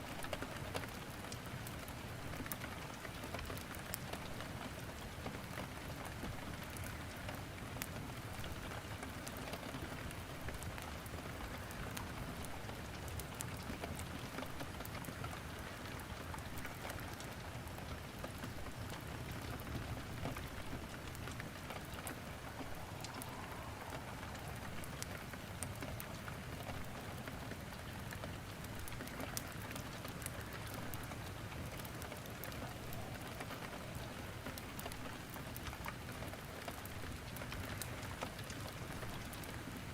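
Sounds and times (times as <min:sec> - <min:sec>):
steady rain: 0:00.0 - 0:39.9
logs crackling in a fireplace: 0:00.1 - 0:39.9.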